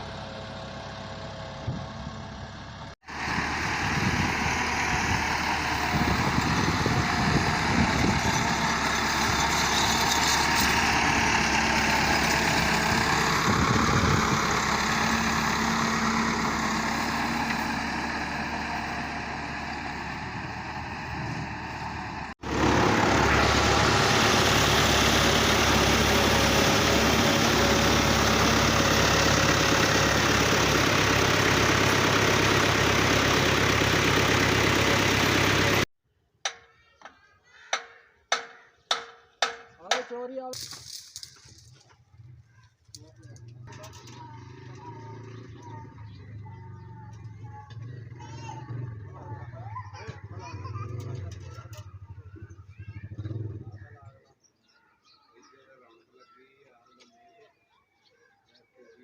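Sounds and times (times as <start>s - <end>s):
tractor diesel engine running: 0.0s - 35.9s, 40.6s - 54.0s.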